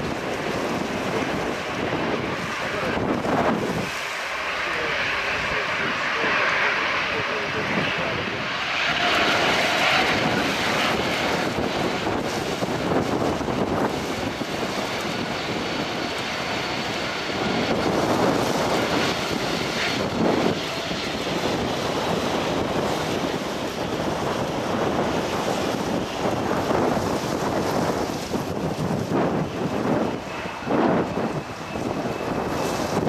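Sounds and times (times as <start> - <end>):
jet engine whine: 0.0 - 33.0
wind buffeting microphone: 0.0 - 33.0.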